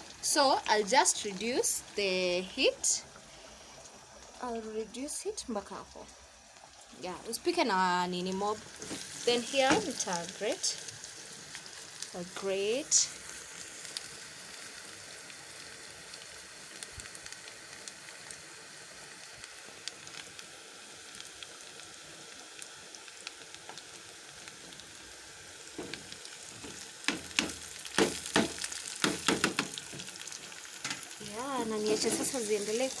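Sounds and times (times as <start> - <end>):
onions sizzling in a pan: 0.0 - 33.0.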